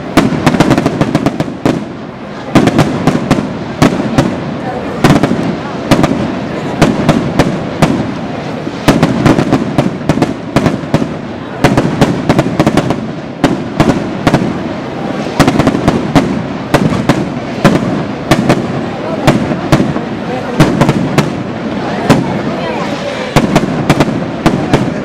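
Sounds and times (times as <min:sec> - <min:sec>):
string of firecrackers banging: 0:00.0 - 0:25.0.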